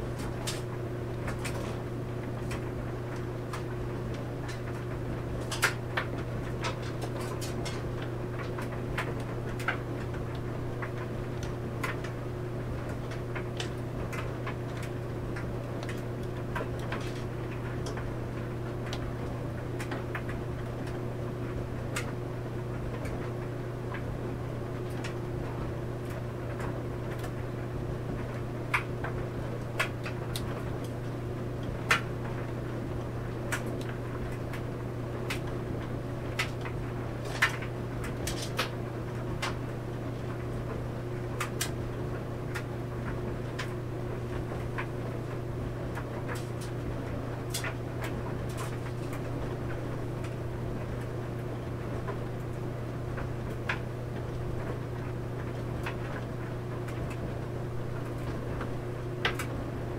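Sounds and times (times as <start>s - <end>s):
clothes dryer humming: 0.0s - 59.9s.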